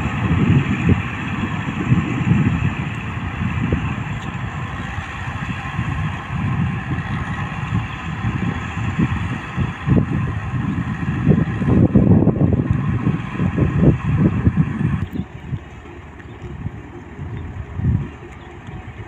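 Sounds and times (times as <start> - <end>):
distant diesel engine drone: 0.0 - 19.0
wind buffeting microphone: 0.0 - 19.0.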